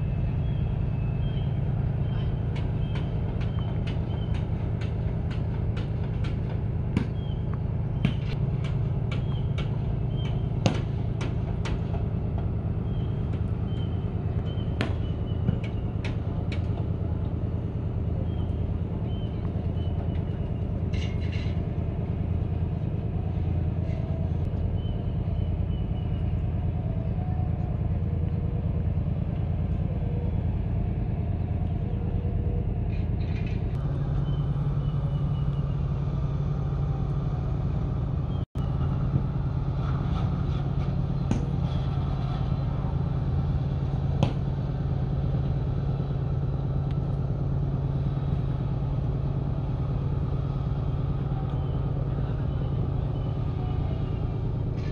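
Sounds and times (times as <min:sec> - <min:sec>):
low engine rumble: 0:00.0 - 0:54.9
steady hum: 0:00.0 - 0:54.9.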